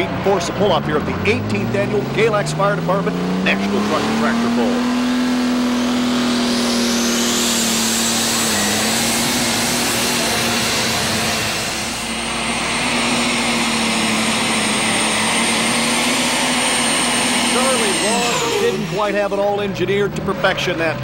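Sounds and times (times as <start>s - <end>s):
deep diesel engine drone: 0.0s - 21.0s
turbocharger whine: 0.0s - 21.0s.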